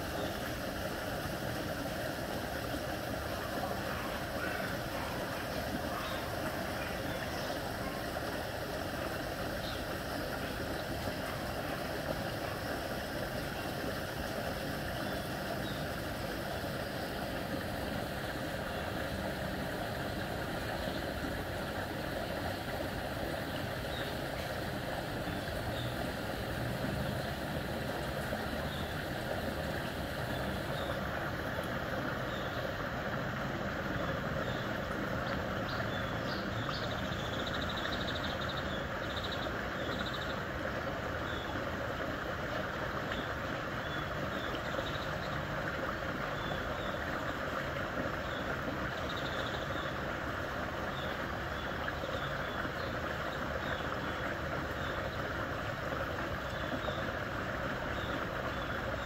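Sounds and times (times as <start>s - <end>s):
rain dripping on water: 0.0s - 59.0s
water rushing into pipe: 0.0s - 59.0s.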